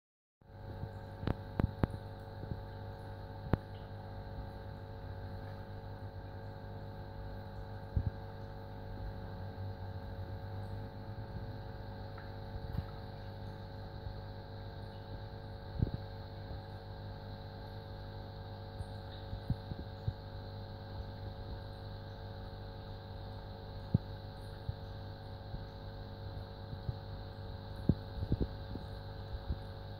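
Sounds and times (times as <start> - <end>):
aquarium air pump humming: 0.4 - 29.9.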